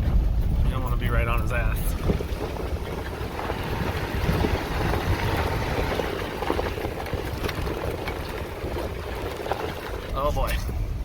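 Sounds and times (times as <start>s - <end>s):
engine and tyres rumbling: 0.0s - 11.0s
vehicle knocks and rattles: 0.0s - 11.0s.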